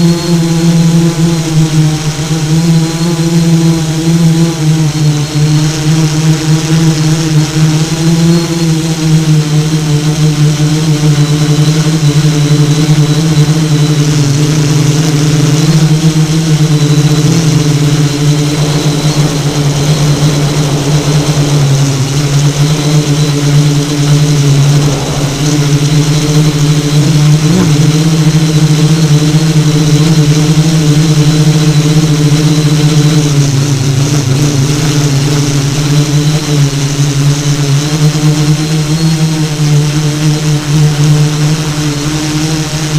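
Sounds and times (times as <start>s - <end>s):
drone propellers buzzing: 0.0s - 42.9s.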